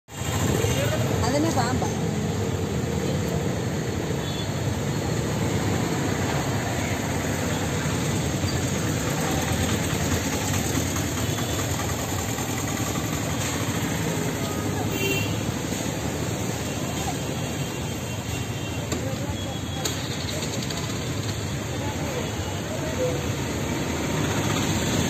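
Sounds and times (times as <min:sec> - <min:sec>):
street traffic noise: 0:00.0 - 0:25.0.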